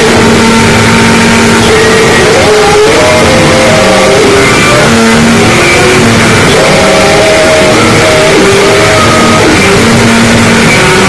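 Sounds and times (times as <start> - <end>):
harsh distorted noise music: 0.0 - 11.0
short held tones: 0.0 - 11.0.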